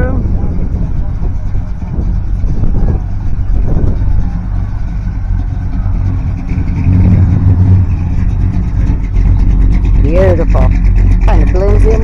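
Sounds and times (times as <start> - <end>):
car driving past: 0.5 - 11.8.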